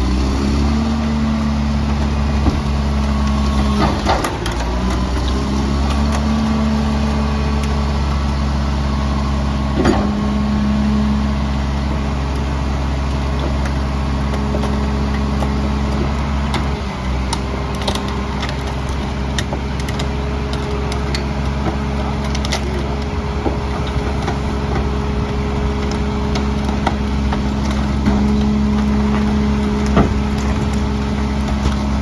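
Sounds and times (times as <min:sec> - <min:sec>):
diesel truck engine running: 0:00.0 - 0:32.0
wood cracking and snapping: 0:01.3 - 0:10.3, 0:12.0 - 0:32.0.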